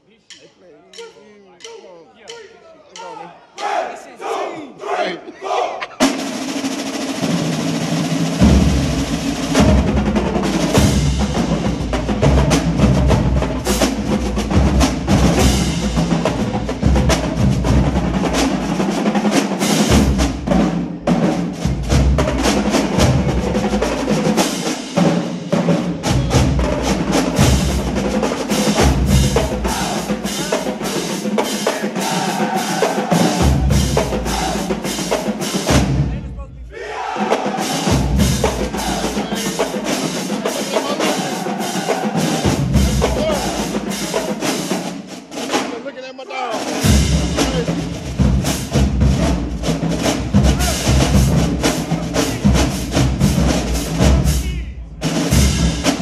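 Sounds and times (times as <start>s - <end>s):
marching drumline cadence: 0.0s - 56.0s
snare drum rolls: 5.9s - 56.0s.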